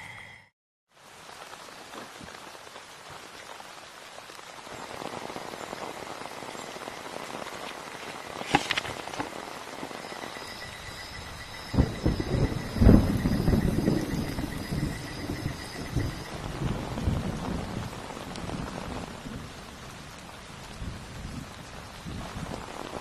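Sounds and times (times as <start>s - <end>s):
heavy rain: 0.9s - 23.0s.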